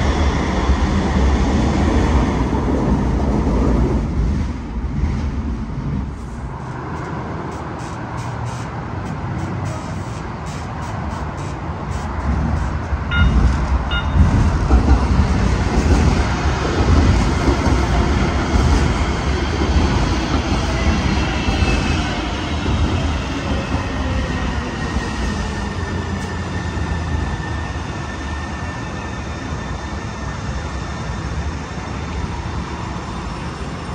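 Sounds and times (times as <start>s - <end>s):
light rail train rumbling past: 0.0s - 33.9s.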